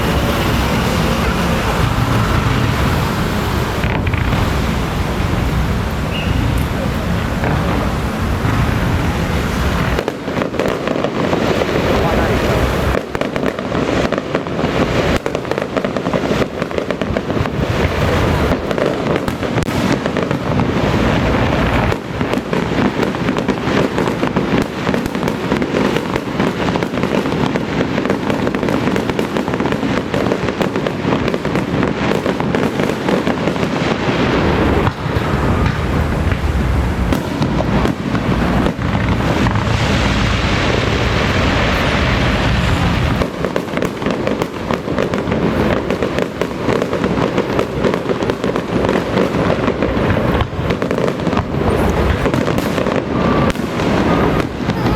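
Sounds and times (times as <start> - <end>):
firecrackers crackling: 0.0 - 54.9.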